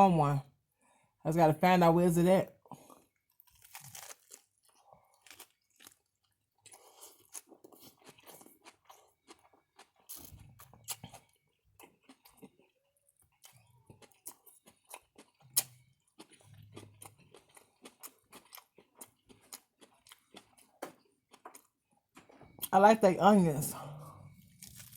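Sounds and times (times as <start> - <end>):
person chewing and crunching: 2.5 - 22.7, 24.0 - 24.9.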